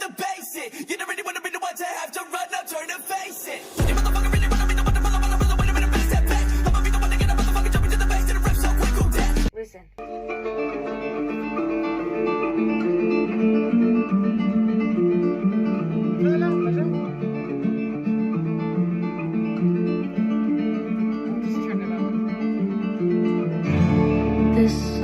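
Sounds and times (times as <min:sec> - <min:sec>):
plucked acoustic guitar melody: 0:03.8 - 0:25.0.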